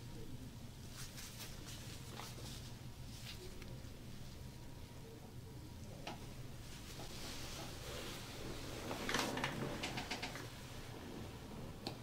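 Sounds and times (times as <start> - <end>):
low room background: 0.0 - 12.0.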